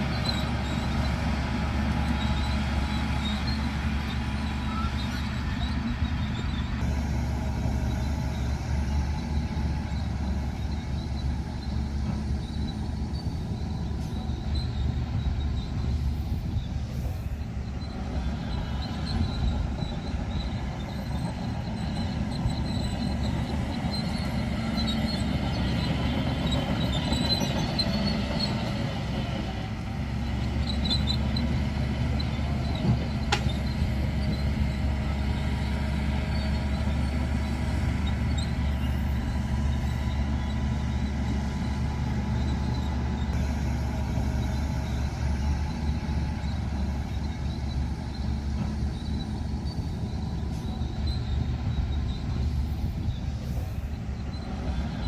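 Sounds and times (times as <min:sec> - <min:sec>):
bulldozer diesel engine running: 0:00.0 - 0:55.0
faint high squeals: 0:00.0 - 0:55.0.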